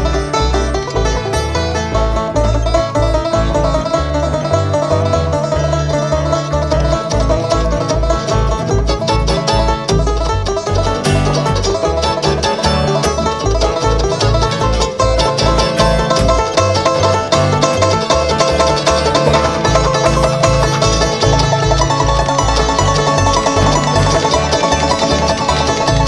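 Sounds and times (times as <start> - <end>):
bass line: 0.0 - 26.0
fast picked banjo: 0.0 - 26.0
guitar: 0.0 - 26.0.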